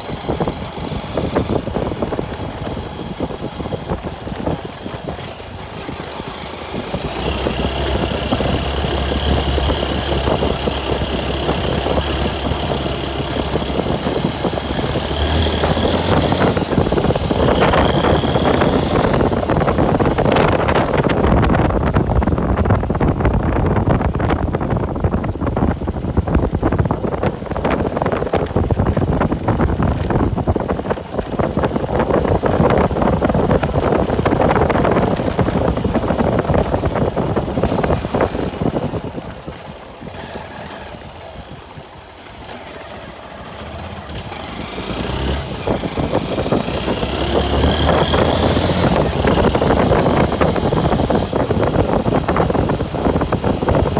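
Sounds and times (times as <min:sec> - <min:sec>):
motorcycle engine: 0:00.0 - 0:53.9
road and wind noise: 0:00.0 - 0:53.9.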